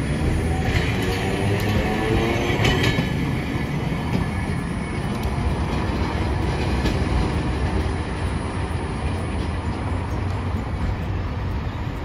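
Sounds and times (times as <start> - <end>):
tram wheels rumbling on rail: 0.0 - 12.0
wheels clicking over rail joints: 0.0 - 12.0.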